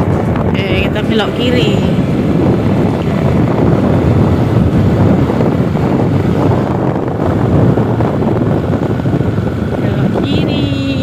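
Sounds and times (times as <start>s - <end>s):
motorcycle running: 0.0s - 11.0s
wind rumble on microphone: 0.0s - 11.0s.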